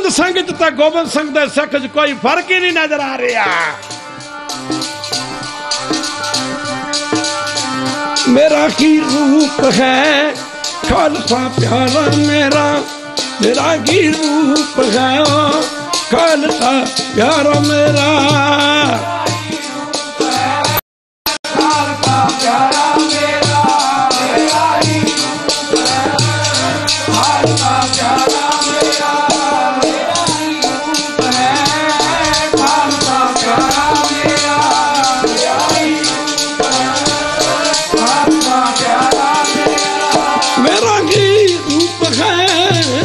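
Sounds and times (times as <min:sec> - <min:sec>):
harmonium: 0:00.0 - 0:20.8, 0:21.5 - 0:43.0
jingling rattle beat: 0:00.0 - 0:20.8, 0:21.5 - 0:43.0
voices singing: 0:03.3 - 0:20.8, 0:21.5 - 0:43.0.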